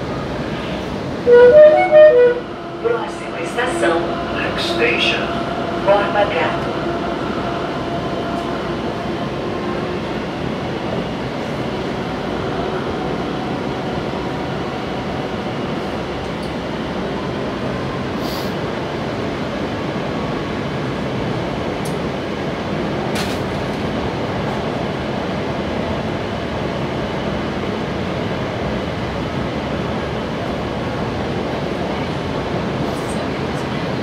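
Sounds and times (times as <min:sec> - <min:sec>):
subway wheels rumbling on rail: 0:00.0 - 0:34.0.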